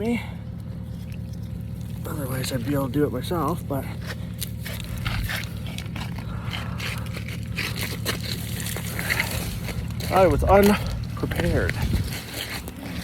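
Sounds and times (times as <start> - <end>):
car engine idling: 0.0 - 13.0
ice crunching and scraping: 1.1 - 13.0.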